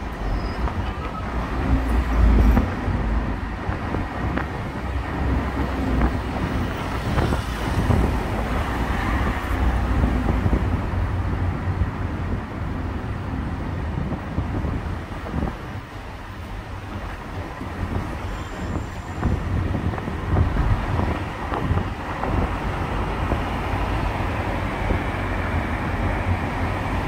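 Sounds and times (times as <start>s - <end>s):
traffic road noise rumble: 0.0s - 27.0s.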